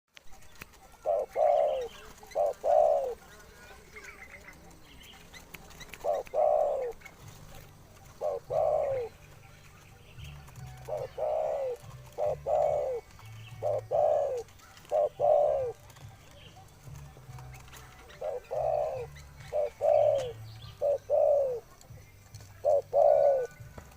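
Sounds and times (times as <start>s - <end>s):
dove cooing: 0.3s - 23.9s.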